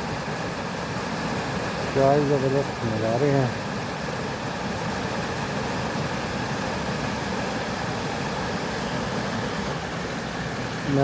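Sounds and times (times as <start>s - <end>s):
falling water rushing: 0.0s - 11.0s.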